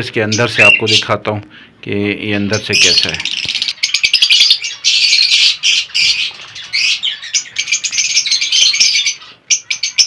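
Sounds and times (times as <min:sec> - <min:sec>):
small parrots squawking and chirping: 0:00.3 - 0:01.2, 0:02.5 - 0:10.0.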